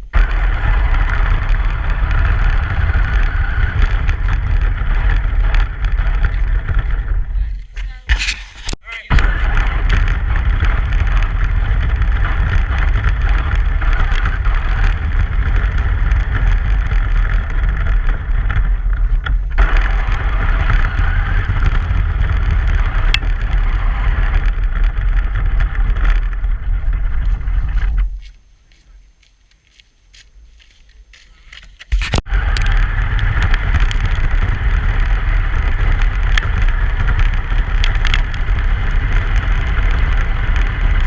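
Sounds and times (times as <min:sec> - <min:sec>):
truck driving rumble: 0:00.0 - 0:07.7, 0:09.1 - 0:28.2, 0:32.2 - 0:41.0.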